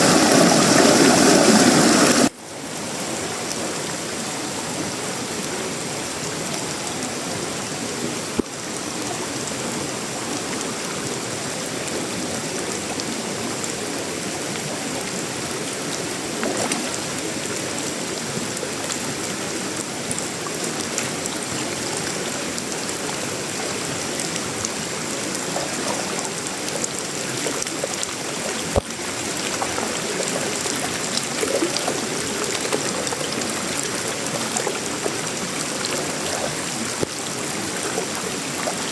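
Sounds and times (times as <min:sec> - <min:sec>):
rain on a metal roof: 0:00.0 - 0:38.9.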